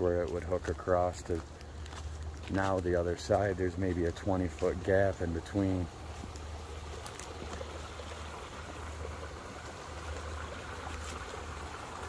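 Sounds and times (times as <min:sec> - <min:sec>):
water trickling in a ditch: 0:00.0 - 0:12.0.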